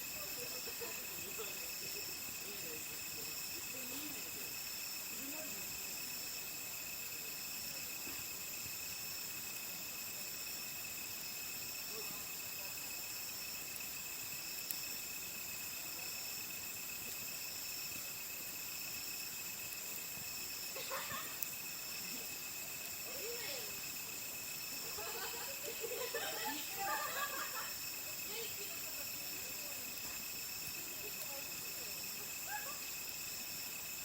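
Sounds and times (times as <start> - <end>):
crickets and insects chirring: 0.0 - 34.0
insect pulsing trills: 0.0 - 34.0.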